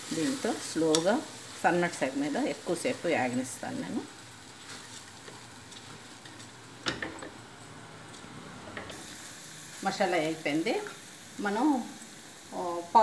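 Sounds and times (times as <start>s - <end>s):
rice sizzling: 0.0s - 13.0s.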